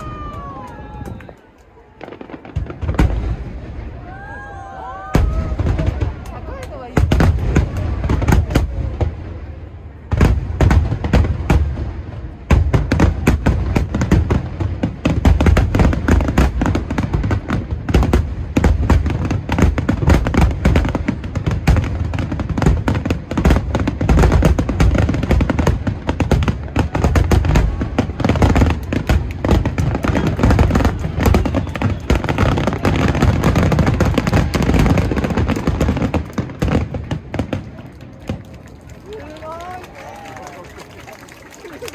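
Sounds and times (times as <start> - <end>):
fireworks booming and crackling: 0.0 - 41.1.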